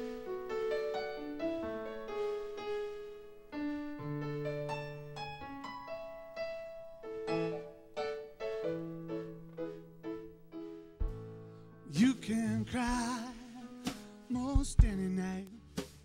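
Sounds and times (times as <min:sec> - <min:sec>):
slow piano ballad: 0:00.0 - 0:16.0.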